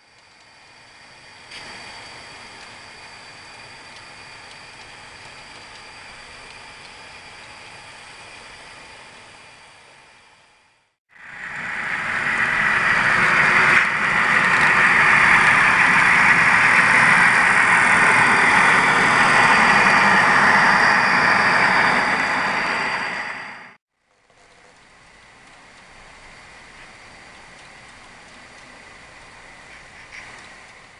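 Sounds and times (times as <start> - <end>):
model train running on track: 0.0 - 10.2, 11.2 - 23.8, 24.4 - 30.9.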